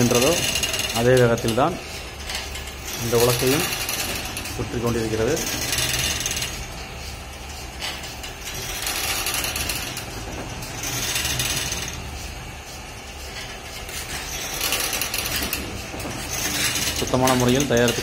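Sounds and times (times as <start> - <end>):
stone oil press grinding and creaking: 0.0 - 18.0.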